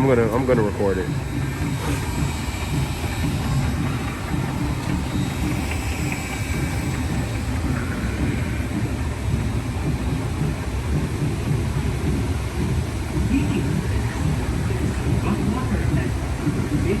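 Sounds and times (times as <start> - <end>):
raft ride machinery rumbling: 0.0 - 17.0.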